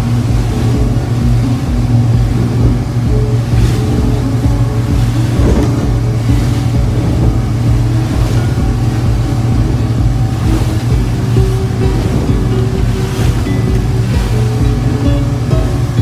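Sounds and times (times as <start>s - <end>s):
boat engine droning: 0.0s - 16.0s
water rushing past hull: 0.0s - 16.0s.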